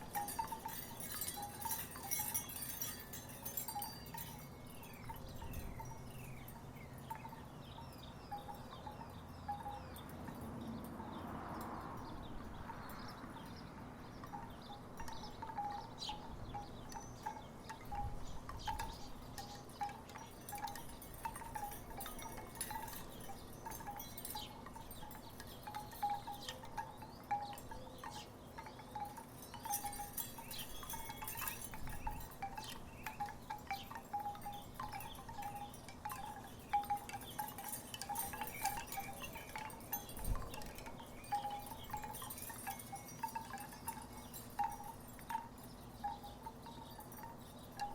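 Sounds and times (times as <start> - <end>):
wooden wind chimes clacking: 0.0 - 11.2, 12.1 - 47.9.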